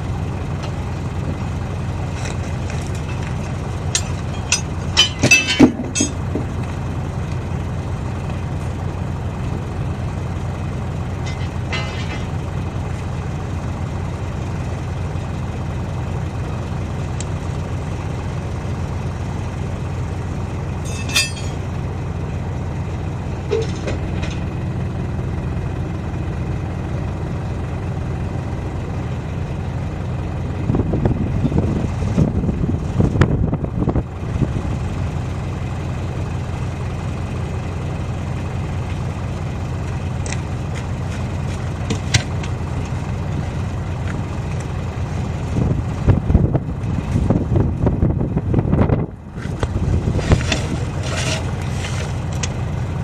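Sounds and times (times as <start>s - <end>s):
diesel engine idling: 0.0s - 53.0s
rough clattering engine noise: 0.0s - 53.0s.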